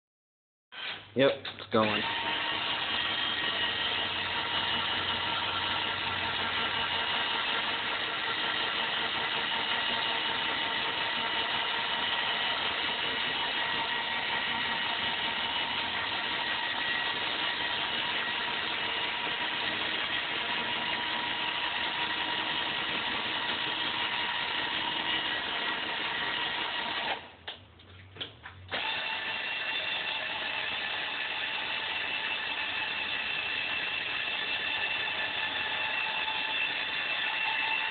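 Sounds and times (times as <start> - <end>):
cordless drill running: 0.8 - 1.0, 1.8 - 27.3, 28.7 - 37.9.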